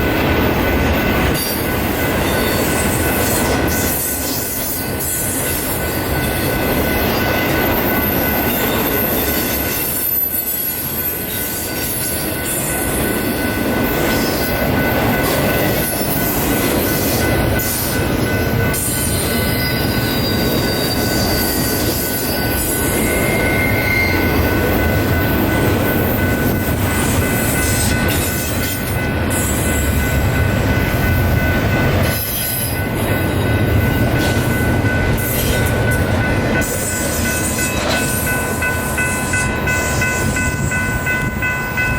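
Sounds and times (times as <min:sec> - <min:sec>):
train cars rumbling and rattling: 0:00.0 - 0:41.9
train wheels squealing: 0:01.0 - 0:30.3, 0:31.3 - 0:36.0, 0:36.6 - 0:41.9.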